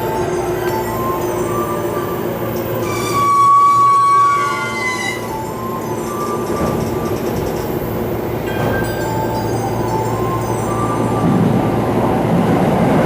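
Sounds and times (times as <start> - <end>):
high ringing tones: 0.0 - 12.2
train rumbling: 0.0 - 13.0.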